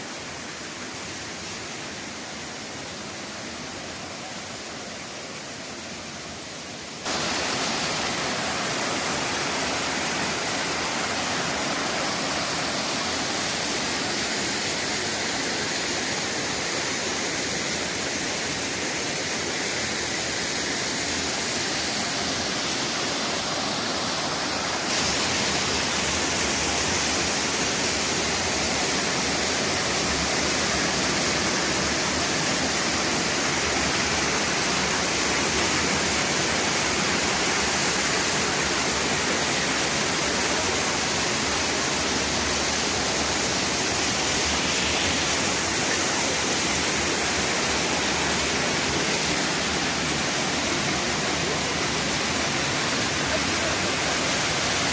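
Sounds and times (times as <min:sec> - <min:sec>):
waterfall rushing and splashing: 0:00.0 - 0:54.9.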